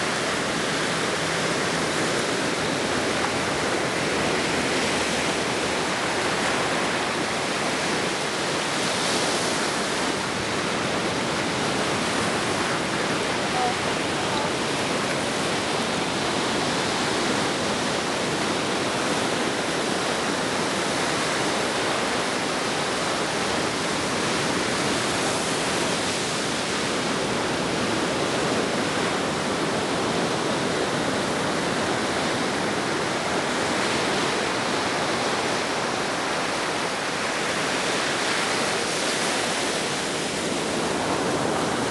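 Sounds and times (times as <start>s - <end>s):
ocean surf washing onto beach: 0.0s - 41.9s.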